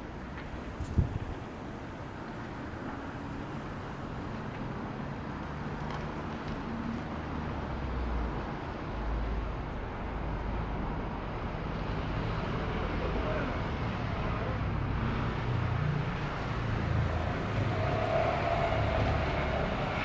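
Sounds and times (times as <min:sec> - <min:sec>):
street traffic noise: 0:00.0 - 0:20.0
vehicle low rumble: 0:00.0 - 0:20.0.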